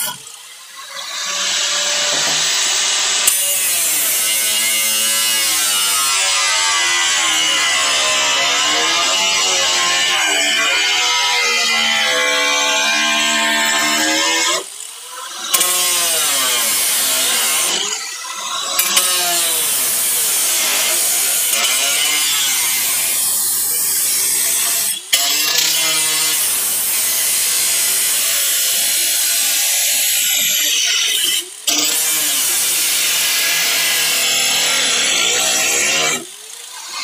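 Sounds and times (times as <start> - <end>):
cutoff wheel grinding steel: 0.0 - 37.0.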